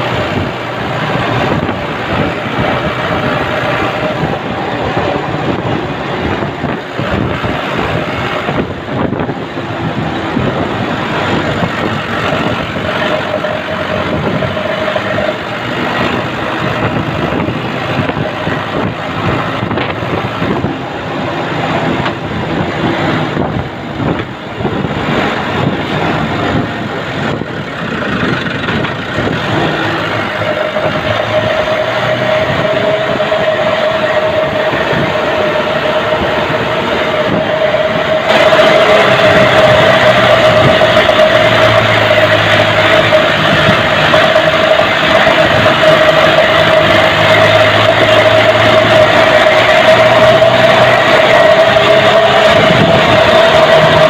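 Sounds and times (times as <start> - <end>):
road and rattle noise: 0.0 - 54.0
truck engine running: 0.0 - 54.0.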